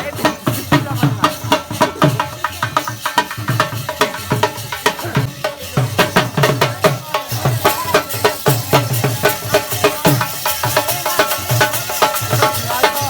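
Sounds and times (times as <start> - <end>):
drum played in fast rhythm: 0.0 - 13.0.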